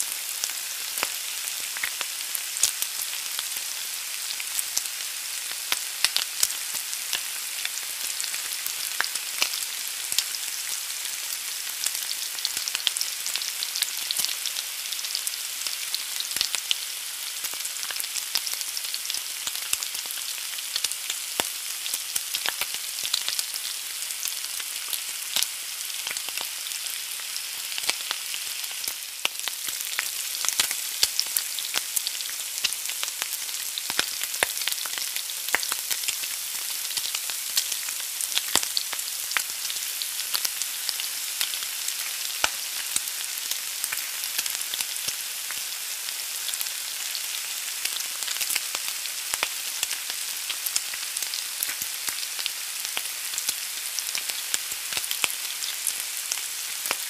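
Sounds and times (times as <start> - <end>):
egg sizzling in a pan: 0.0 - 57.0.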